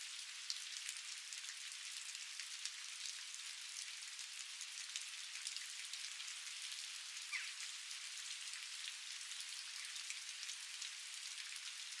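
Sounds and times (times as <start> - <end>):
raindrops ticking on surfaces: 0.0 - 12.0.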